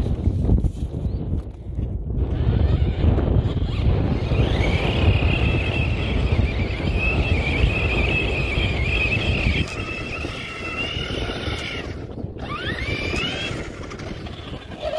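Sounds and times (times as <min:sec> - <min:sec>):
wind rumble on microphone: 0:00.0 - 0:14.9
rc truck motor whining: 0:02.2 - 0:14.9.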